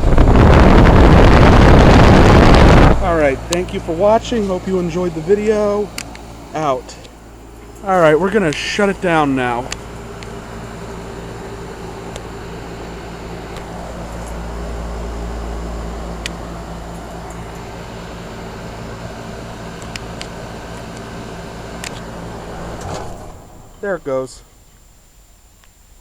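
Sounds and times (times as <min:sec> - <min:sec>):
condenser fan rushing: 0:00.0 - 0:25.6
compressor hum: 0:00.0 - 0:26.0.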